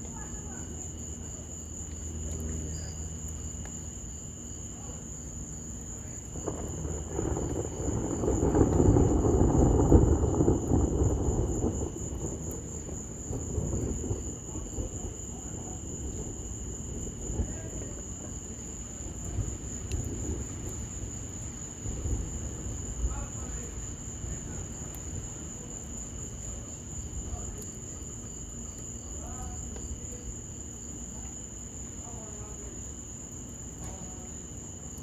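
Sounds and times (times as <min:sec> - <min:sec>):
crickets trilling: 0:00.0 - 0:35.0
distant thunder rumble: 0:00.0 - 0:35.0.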